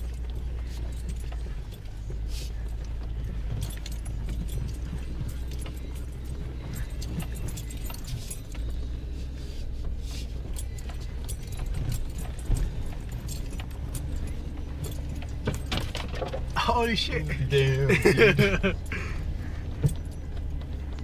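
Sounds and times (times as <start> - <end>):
jangling rattling clatter: 0.0 - 21.0
vehicle engine and road rumble: 0.0 - 21.0.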